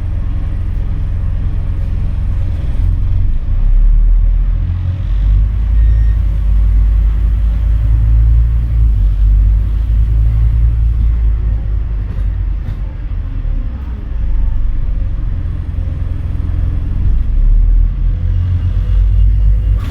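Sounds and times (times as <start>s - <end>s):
bus engine rumbling: 0.0s - 19.9s.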